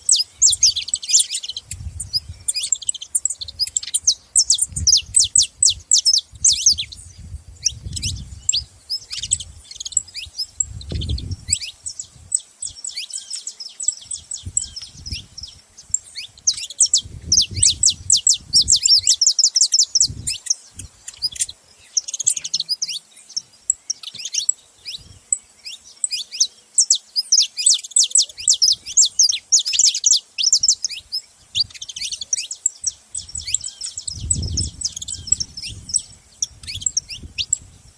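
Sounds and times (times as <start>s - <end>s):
finches chirping: 0.0s - 37.9s.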